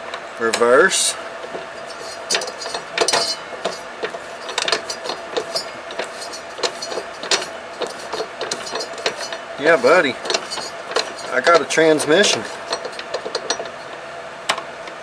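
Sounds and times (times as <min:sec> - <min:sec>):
mower transmission clicks and clunks: 0:00.0 - 0:15.0.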